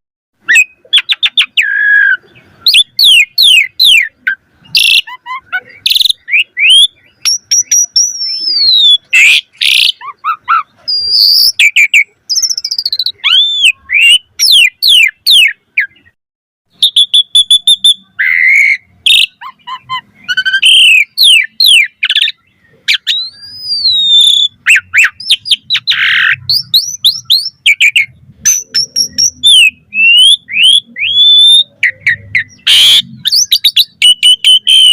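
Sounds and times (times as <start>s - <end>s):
starling singing varied song: 0.4s - 34.9s.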